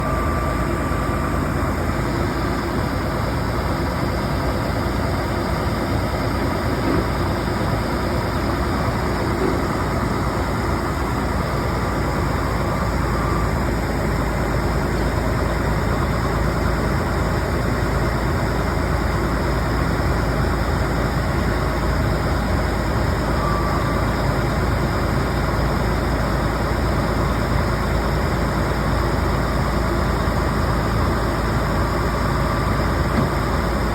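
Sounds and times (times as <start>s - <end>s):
drill rig engine running: 0.0s - 33.9s.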